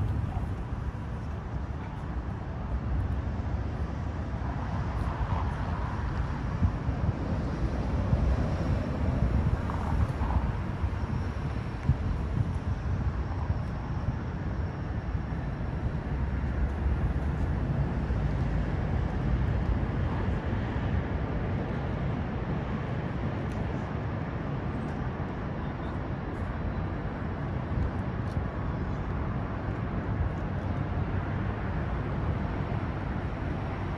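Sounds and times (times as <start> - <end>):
low rumble of traffic: 0.0 - 33.9.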